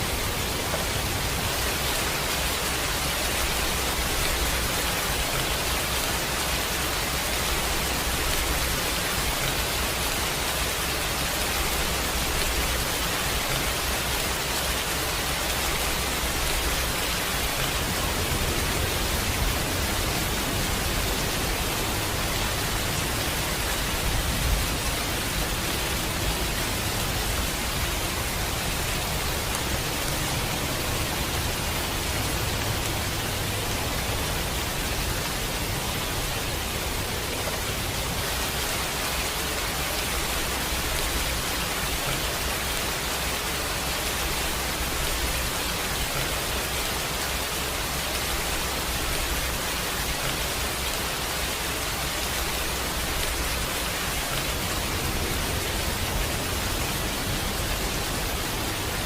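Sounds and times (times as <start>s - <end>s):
heavy rain hiss: 0.0s - 59.0s.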